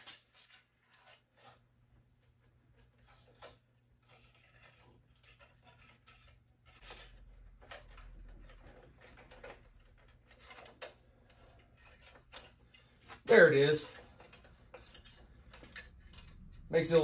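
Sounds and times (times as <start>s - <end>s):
wire scraping and clicking: 0.0s - 1.6s, 2.4s - 17.0s.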